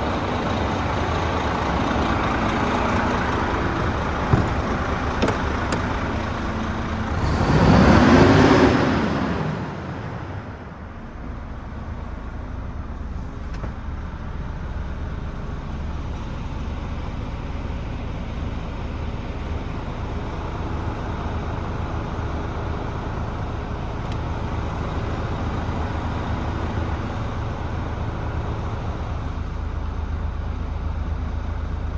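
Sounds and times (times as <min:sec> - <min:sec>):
diesel engine idling and revving: 0:00.0 - 0:31.9.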